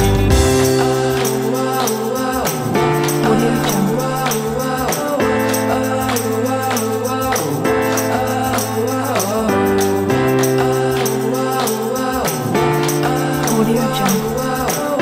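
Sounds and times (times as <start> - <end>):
upbeat music with steady beat: 0.0 - 15.0.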